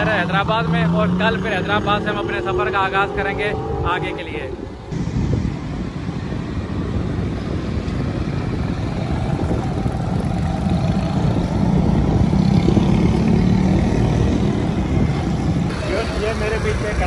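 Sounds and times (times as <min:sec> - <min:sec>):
bus engine rumbling: 0:00.0 - 0:17.0
motorcycles running: 0:00.0 - 0:17.0.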